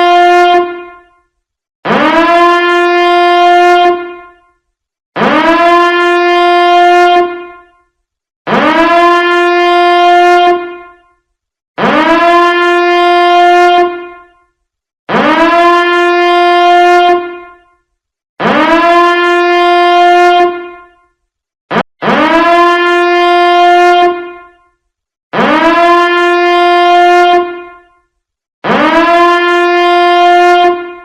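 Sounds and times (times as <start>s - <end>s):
alarm horn blasts: 0.0s - 31.0s.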